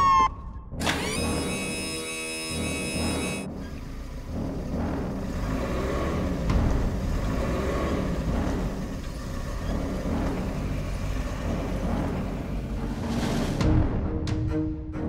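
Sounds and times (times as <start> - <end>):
car engine running: 0.8 - 13.5.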